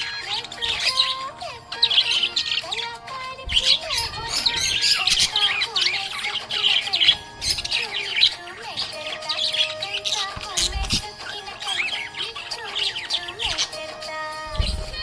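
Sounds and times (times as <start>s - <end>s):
budgerigar chirping and warbling: 0.0s - 15.0s.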